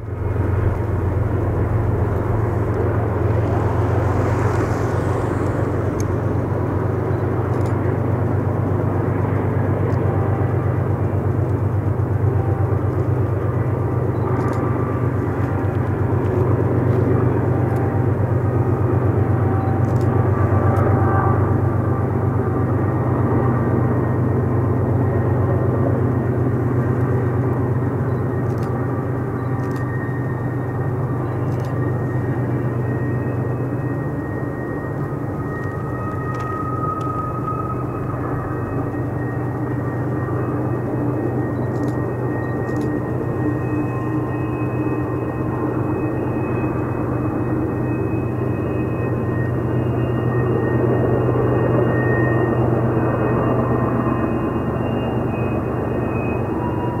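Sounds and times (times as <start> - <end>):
diesel locomotive engines humming: 0.0 - 57.0.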